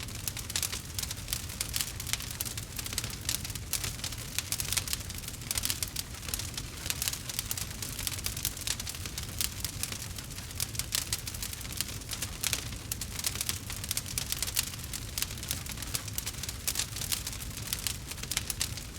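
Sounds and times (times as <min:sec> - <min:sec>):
wood campfire crackling: 0:00.0 - 0:18.9.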